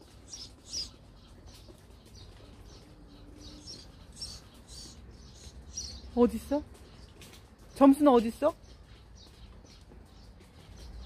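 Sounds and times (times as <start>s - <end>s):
sparrow chirps: 0.0s - 11.0s.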